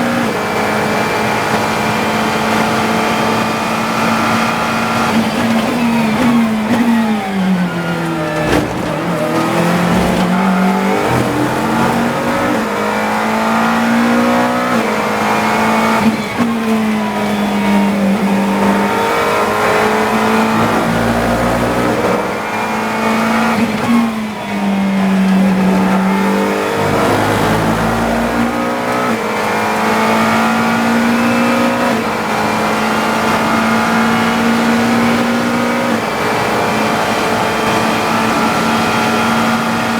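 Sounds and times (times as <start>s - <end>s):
race car engine shifting gears: 0.0s - 39.9s.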